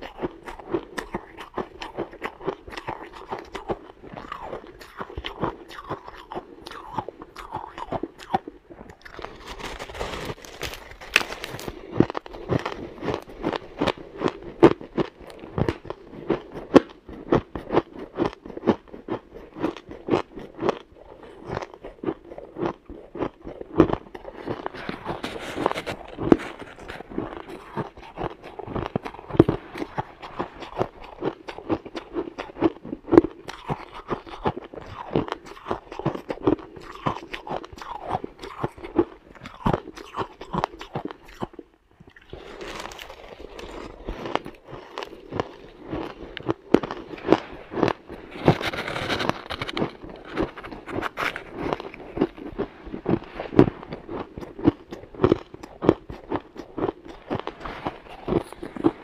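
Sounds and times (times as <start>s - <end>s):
chewing crunchy ice: 0.0s - 59.0s.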